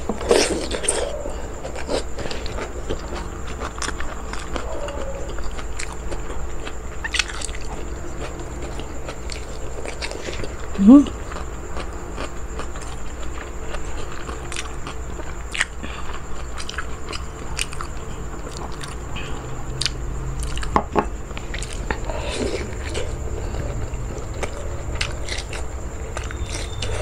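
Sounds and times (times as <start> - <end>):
person chewing with wet smacks: 5.3 - 27.0.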